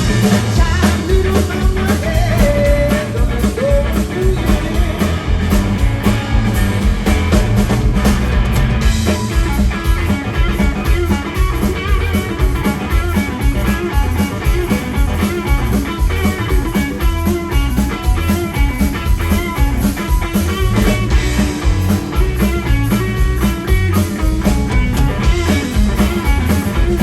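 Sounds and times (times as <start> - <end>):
bass guitar: 0.0 - 27.0
drum kit: 0.0 - 27.0
guitar: 0.0 - 27.0.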